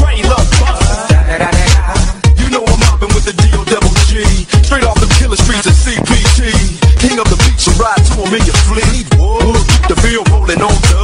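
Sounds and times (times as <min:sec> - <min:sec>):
deep bass hits: 0:00.0 - 0:11.0
hip hop music: 0:00.0 - 0:11.0
melodic vocals: 0:00.0 - 0:11.0.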